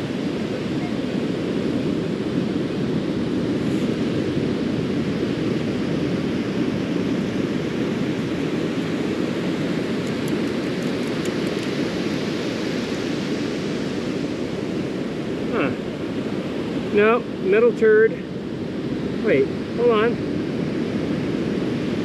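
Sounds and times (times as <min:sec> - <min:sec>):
ocean surf roaring: 0:00.0 - 0:22.0
wind buffeting microphone: 0:00.0 - 0:22.0.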